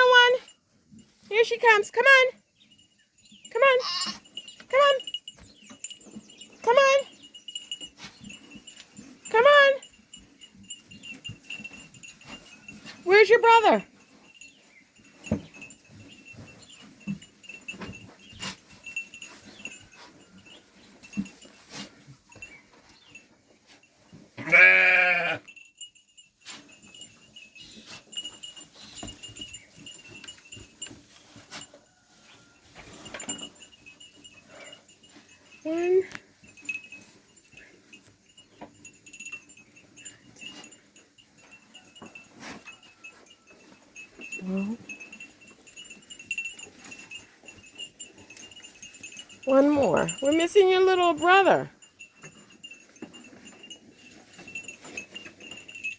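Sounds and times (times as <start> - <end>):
sheep bells ringing: 0.0 - 55.9
sheep moving about: 0.0 - 55.9.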